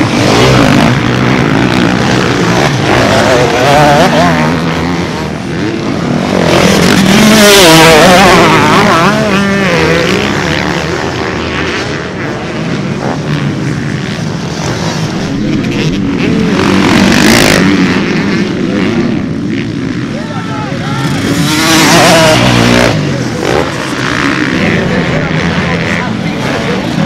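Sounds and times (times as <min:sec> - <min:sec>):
dirt bikes racing past: 0:00.0 - 0:27.0.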